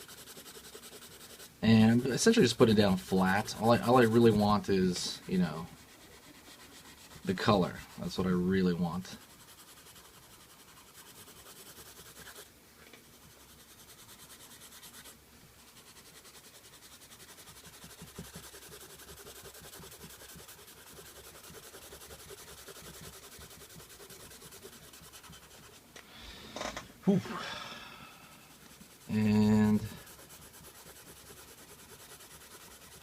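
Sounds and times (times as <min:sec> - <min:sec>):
pencil shading on paper: 0:00.0 - 0:12.5, 0:13.1 - 0:25.8, 0:28.5 - 0:33.0.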